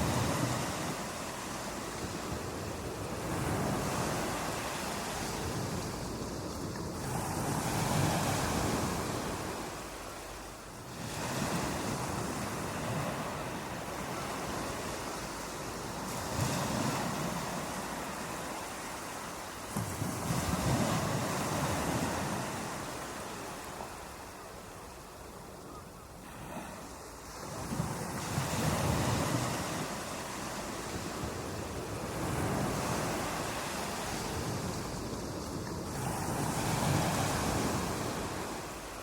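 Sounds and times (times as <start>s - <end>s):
ocean waves breaking: 0.0s - 24.5s, 26.2s - 39.0s.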